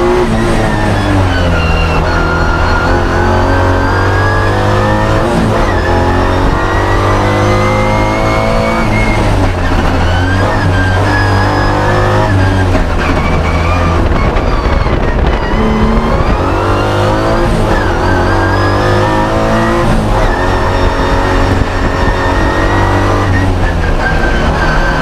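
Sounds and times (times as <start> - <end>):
race car engine at hard throttle: 0.0 - 25.0.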